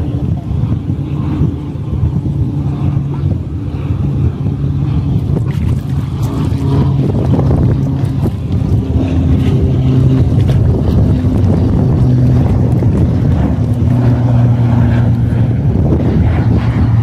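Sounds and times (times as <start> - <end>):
low motor hum: 0.0 - 17.0
wind on microphone: 0.0 - 17.0.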